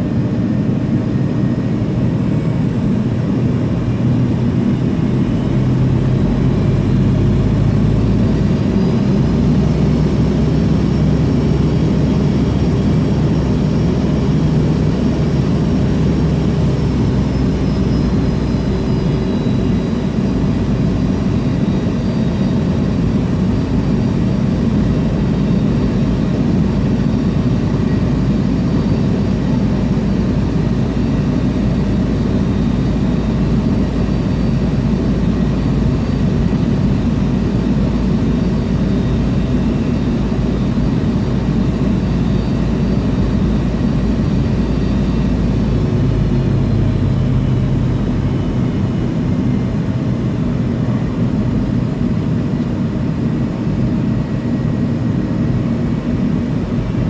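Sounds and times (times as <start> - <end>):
jet engines rumbling in cabin: 0.0 - 57.0
faint high whine: 0.7 - 57.0.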